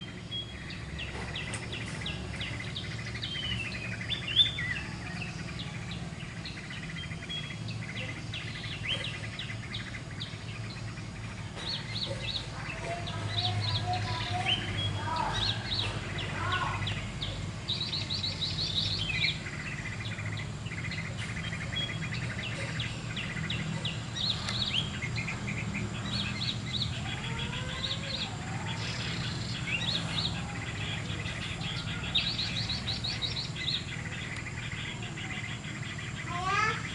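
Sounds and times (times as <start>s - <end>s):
songbirds chirping and trilling: 0.0s - 36.9s
steady low hum: 0.0s - 36.9s.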